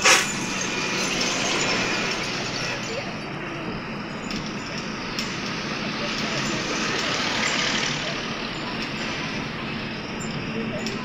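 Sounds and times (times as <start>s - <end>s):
road noise inside vehicle: 0.0s - 11.0s.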